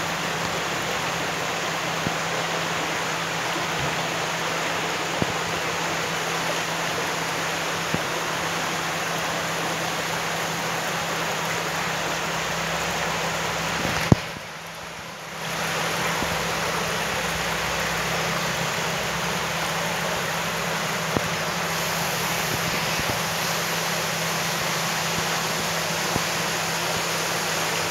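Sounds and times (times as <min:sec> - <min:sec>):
running water rushing: 0:00.0 - 0:27.9.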